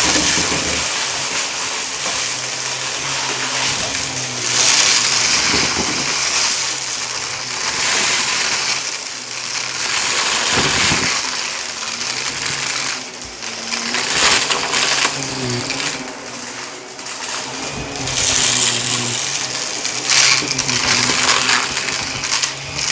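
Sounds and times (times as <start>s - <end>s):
grit rattling into vacuum: 0.0s - 22.9s
vacuum cleaner on carpet: 0.0s - 22.9s.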